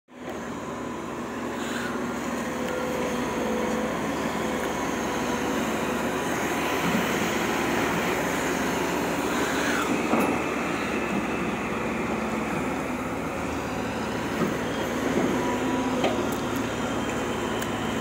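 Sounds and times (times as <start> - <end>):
excavator diesel engine running: 0.1 - 18.0.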